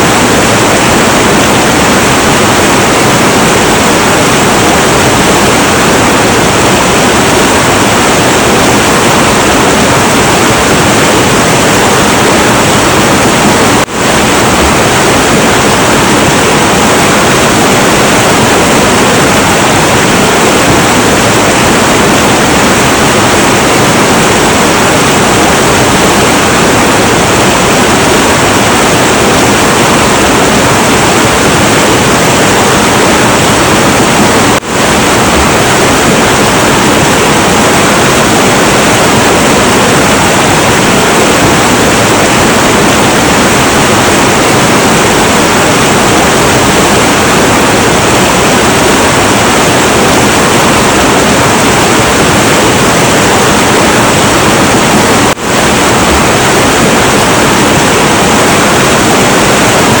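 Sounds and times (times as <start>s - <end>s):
turbulent river water rushing: 0.0s - 60.0s.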